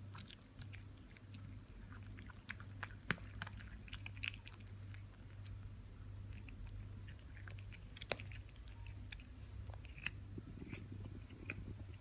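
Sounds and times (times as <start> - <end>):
kitten licking and chewing: 0.0 - 12.0.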